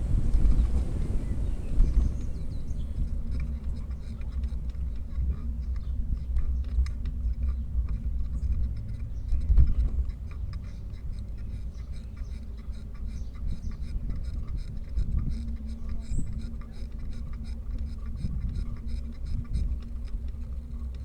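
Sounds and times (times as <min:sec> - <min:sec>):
wind buffeting microphone: 0:00.0 - 0:21.0
small irregular clicks and rattles: 0:03.0 - 0:21.0.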